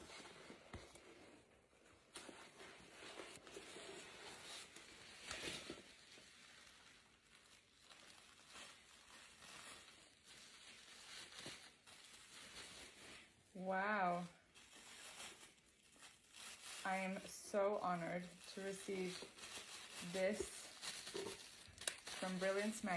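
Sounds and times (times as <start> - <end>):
packaging rustling: 0.0 - 22.9.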